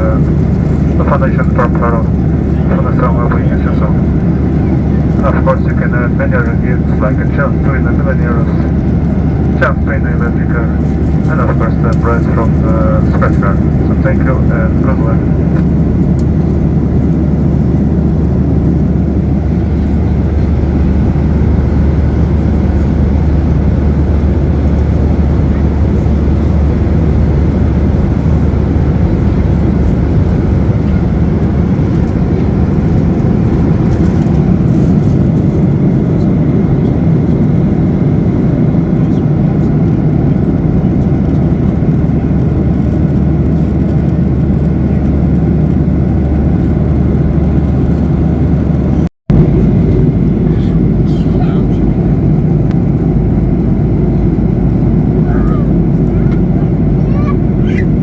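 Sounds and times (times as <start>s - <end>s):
constant deep hum: 0.0s - 58.0s
jet engines roaring: 0.0s - 58.0s.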